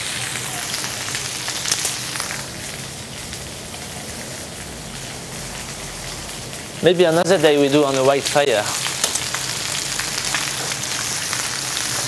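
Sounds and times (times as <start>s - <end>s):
chicken sizzling in hot oil: 0.0s - 12.0s
sharp oil crackles: 0.0s - 12.0s.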